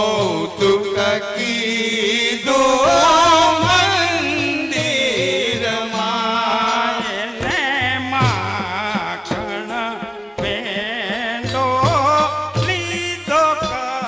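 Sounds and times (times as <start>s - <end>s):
devotional music: 0.0s - 14.0s
wavering singing voice: 0.0s - 14.0s.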